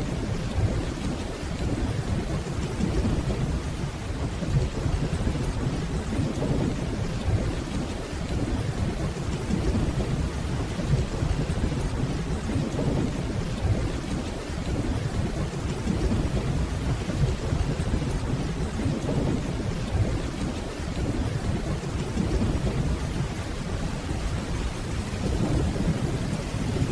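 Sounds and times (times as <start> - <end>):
distant rolling thunder: 0.0 - 26.9
steady rainfall: 0.0 - 26.9.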